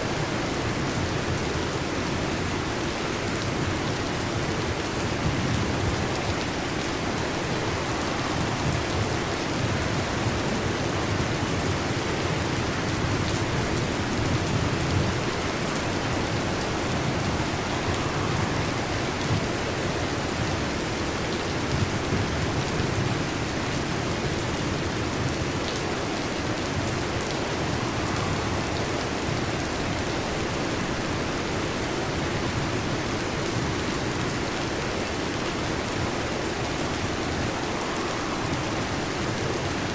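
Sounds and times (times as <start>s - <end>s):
heavy rain on a metal roof: 0.0s - 39.9s
thunder rumbles: 3.4s - 34.2s, 35.8s - 39.9s.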